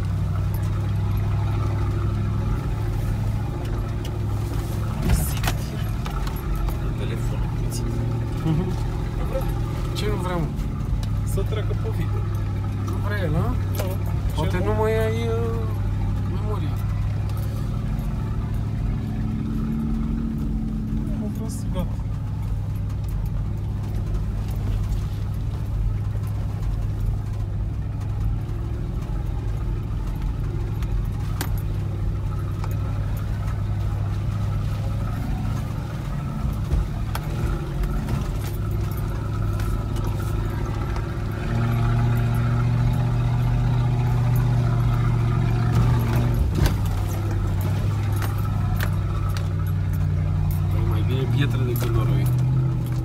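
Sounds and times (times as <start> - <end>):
car engine running at low speed: 0.0 - 53.0
light rattles and knocks: 0.0 - 53.0.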